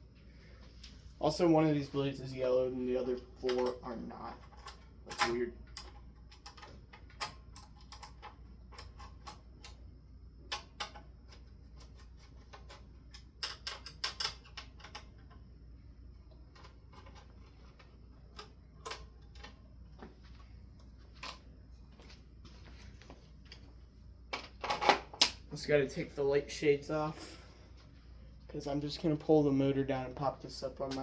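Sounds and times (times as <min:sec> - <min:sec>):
fan parts clicking and tapping: 0:00.6 - 0:26.1, 0:28.5 - 0:31.0.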